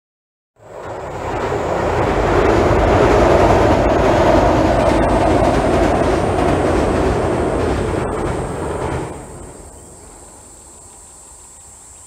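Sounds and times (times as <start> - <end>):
train wheels rumbling on bridge: 0.6 - 11.4.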